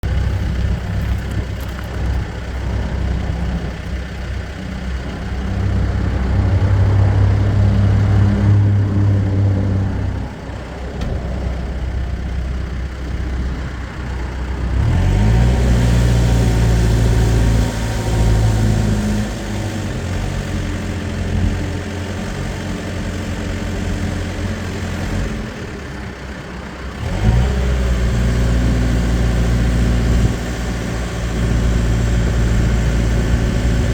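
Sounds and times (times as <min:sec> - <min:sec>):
backhoe diesel engine revving: 0:00.0 - 0:33.9.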